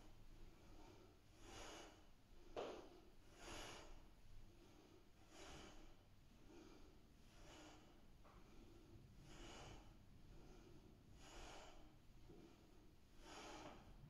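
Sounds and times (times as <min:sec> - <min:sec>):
person breathing rhythmically: 0:00.0 - 0:14.0.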